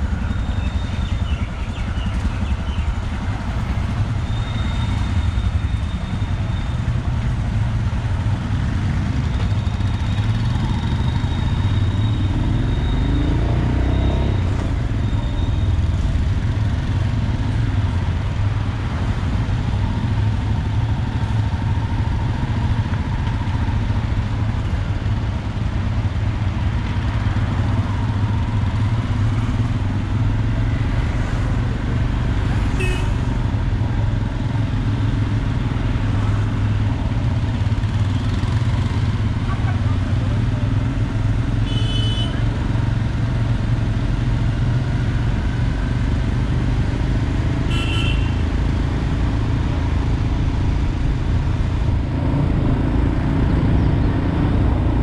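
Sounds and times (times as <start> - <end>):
motorcycle engines running: 0.0 - 55.0
road noise: 0.0 - 55.0.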